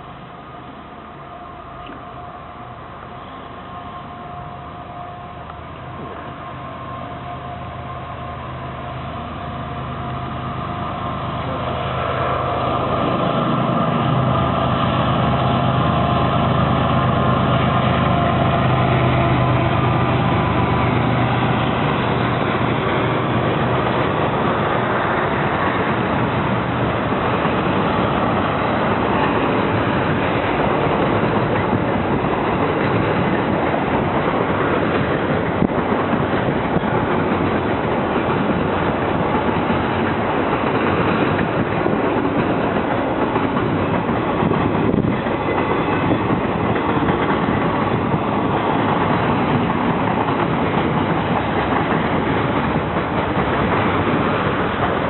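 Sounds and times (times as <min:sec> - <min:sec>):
diesel locomotive engine drone: 0:00.0 - 0:55.0
freight cars rolling by: 0:00.0 - 0:55.0.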